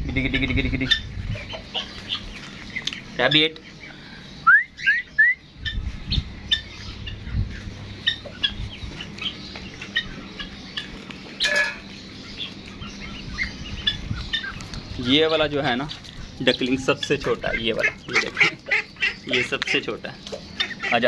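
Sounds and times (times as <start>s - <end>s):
bird squawk: 0.0s - 15.4s, 16.3s - 21.0s
pet birds chirping: 0.0s - 21.0s.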